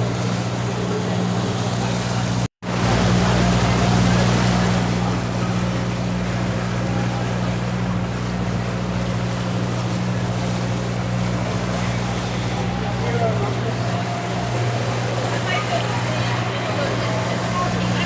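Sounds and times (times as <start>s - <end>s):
boat engine humming: 0.0s - 18.0s
rushing water: 0.0s - 18.0s
wind: 0.0s - 18.0s.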